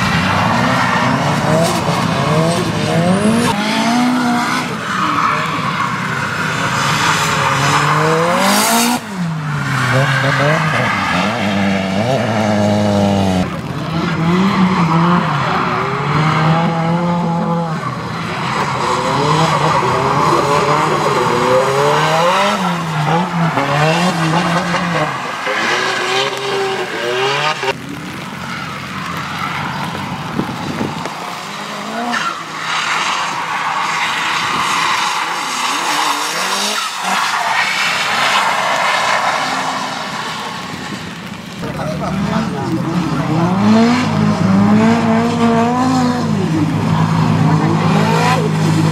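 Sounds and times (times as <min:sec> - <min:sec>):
car engines revving hard: 0:00.0 - 0:48.9
tyres skidding on wet track: 0:00.0 - 0:48.9.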